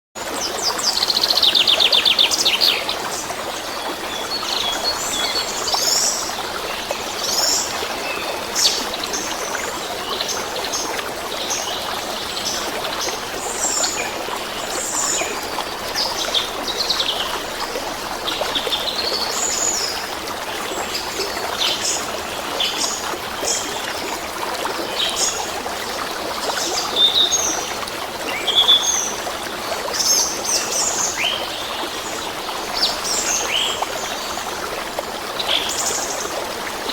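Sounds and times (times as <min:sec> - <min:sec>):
running water rushing: 0:00.2 - 0:36.9.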